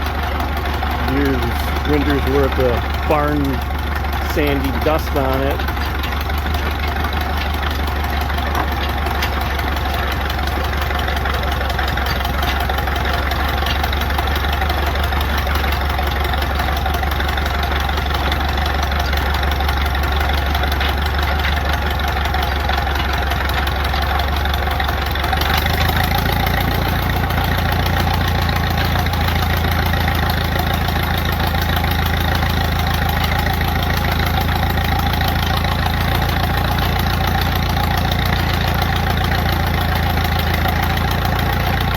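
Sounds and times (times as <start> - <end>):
tractor engine idling: 0.0 - 41.9.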